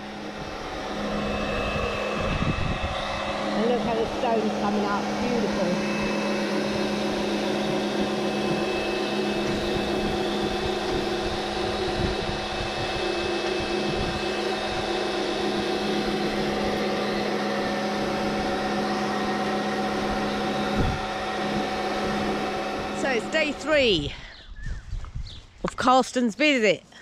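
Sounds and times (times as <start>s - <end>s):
pressure washer motor hum: 0.0s - 24.4s.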